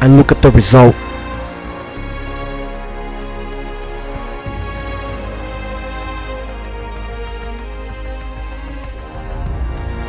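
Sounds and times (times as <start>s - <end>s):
instrumental music with held notes: 0.0s - 10.0s
low bass: 0.0s - 10.0s.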